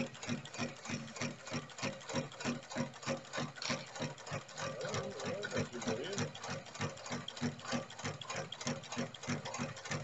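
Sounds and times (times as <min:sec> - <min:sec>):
sewing machine stitching rope: 0:00.0 - 0:10.0.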